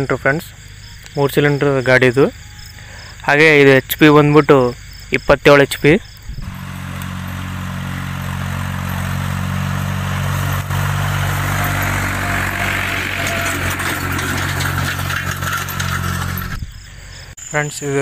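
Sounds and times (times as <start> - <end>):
tractor diesel engine running: 2.4 - 17.4.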